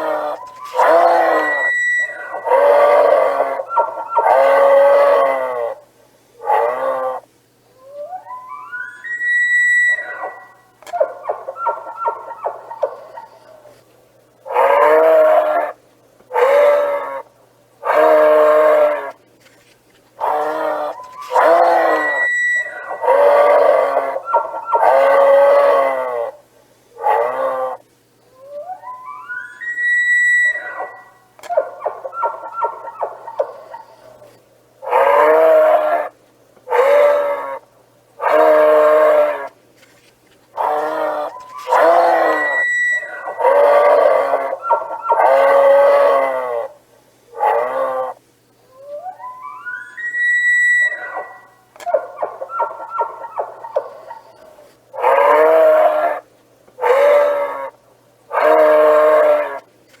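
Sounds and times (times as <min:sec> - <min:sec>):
moose grunting and moaning: 0:00.0 - 0:13.8, 0:20.2 - 0:26.4, 0:28.4 - 0:39.5, 0:40.6 - 0:46.8, 0:48.8 - 0:59.7.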